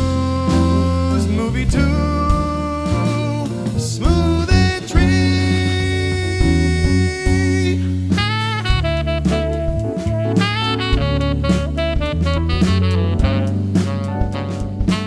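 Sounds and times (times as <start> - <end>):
funk band playing: 0.0 - 15.0
lead instrument melody: 0.0 - 15.0.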